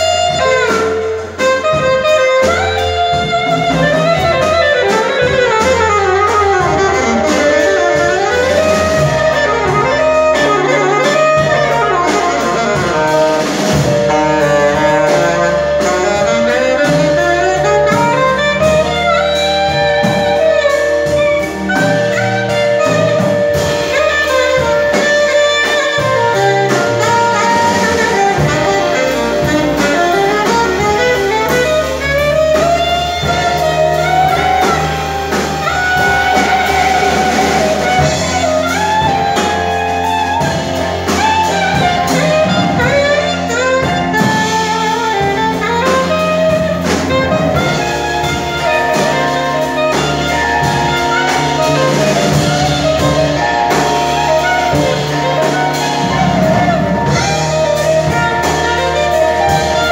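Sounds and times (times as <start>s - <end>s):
jazz ensemble with saxophones: 0.0s - 59.9s.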